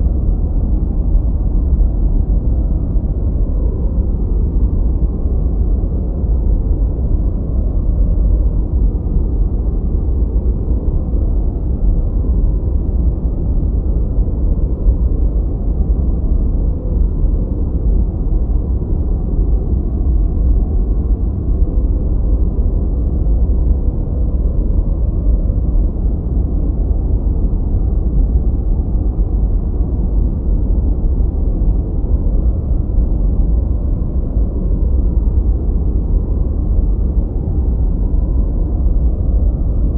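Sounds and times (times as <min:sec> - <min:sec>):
deep muffled steady noise: 0:00.0 - 0:39.9.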